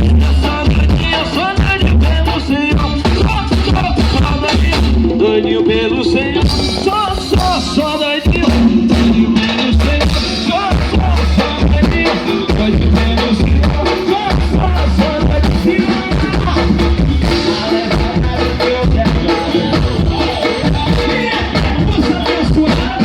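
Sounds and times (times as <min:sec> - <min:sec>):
heavy bass line: 0:00.0 - 0:23.0
live band playing upbeat groove: 0:00.0 - 0:23.0.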